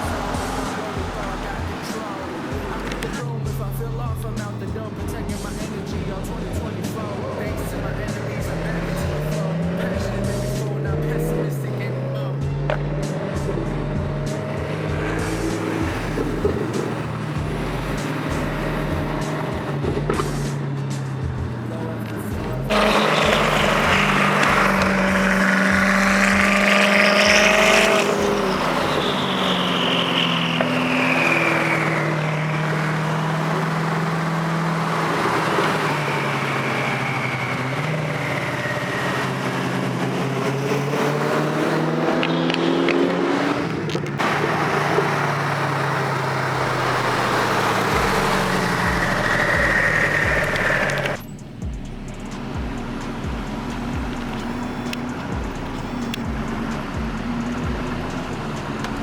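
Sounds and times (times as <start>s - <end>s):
car engines revving passing: 0.0s - 59.0s.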